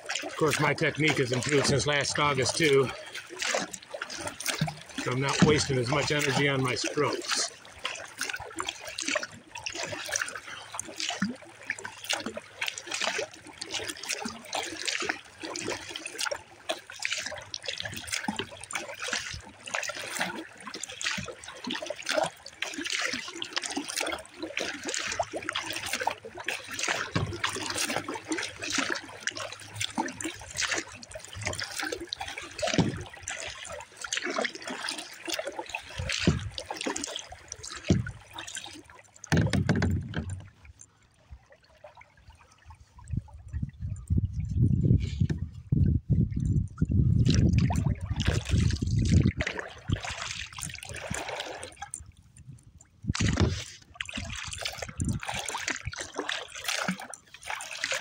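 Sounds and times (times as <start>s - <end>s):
water splashing along kayak hull: 0.0s - 58.0s.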